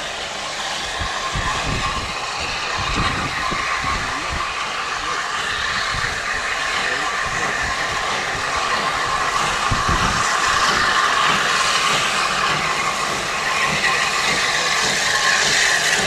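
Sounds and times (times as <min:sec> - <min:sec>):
steam train rushing: 0:00.0 - 0:16.0.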